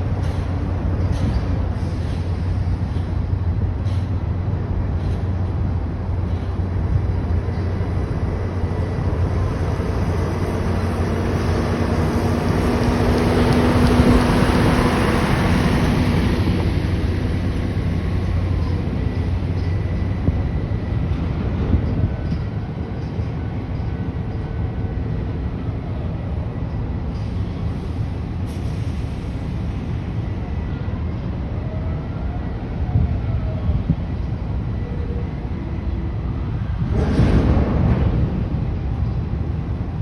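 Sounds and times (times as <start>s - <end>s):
crane machinery humming: 0.0s - 40.0s.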